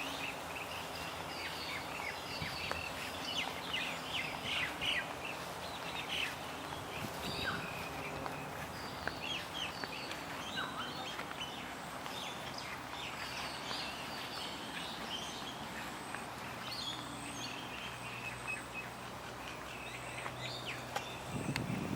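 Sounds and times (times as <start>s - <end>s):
birds chirping and whistling: 0.0s - 21.9s.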